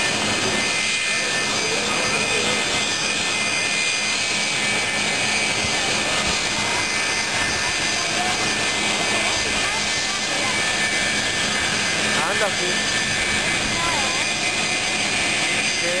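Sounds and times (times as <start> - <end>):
jet engines with high whine: 0.0 - 16.0.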